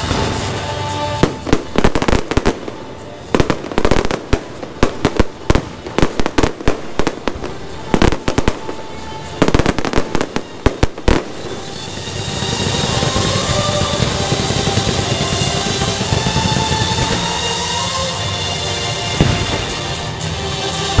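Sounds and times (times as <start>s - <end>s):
fireworks bangs: 0.0s - 21.0s
music: 0.0s - 21.0s.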